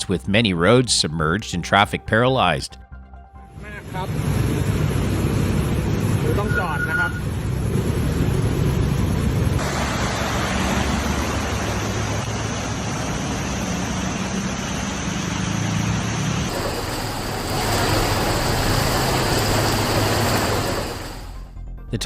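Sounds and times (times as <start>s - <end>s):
vehicle engine hum: 3.4s - 22.0s
steady rushing noise: 3.6s - 21.5s.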